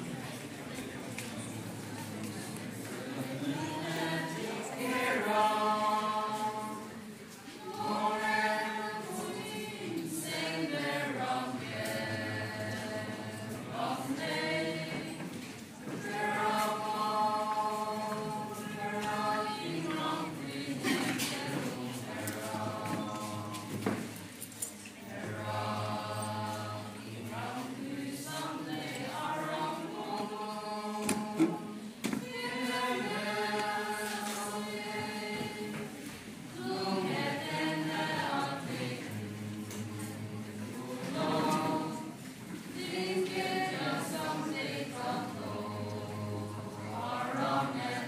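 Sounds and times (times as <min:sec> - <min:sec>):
choir singing: 0:02.3 - 0:48.0.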